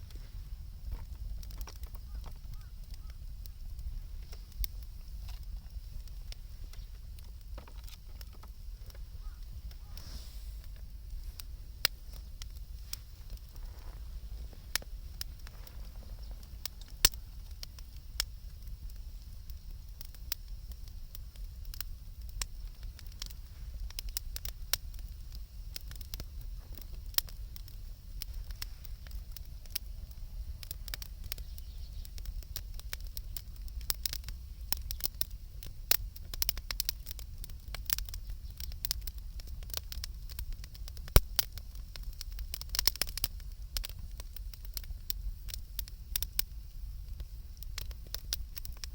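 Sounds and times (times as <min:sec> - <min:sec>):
campfire crackling and popping: 0:00.0 - 0:48.9
low fire rumble: 0:00.0 - 0:48.9.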